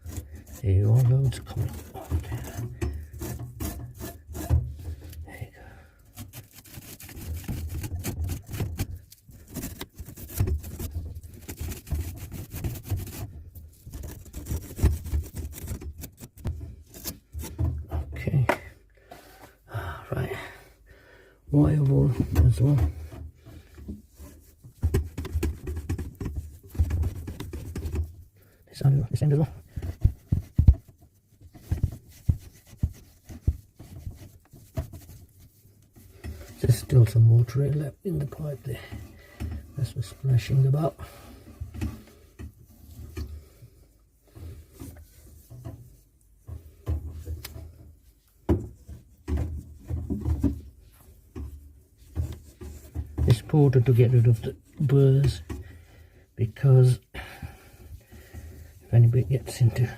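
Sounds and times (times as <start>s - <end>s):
abrasive cloth scrubbing copper pipe: 0.0s - 19.6s, 21.5s - 59.9s.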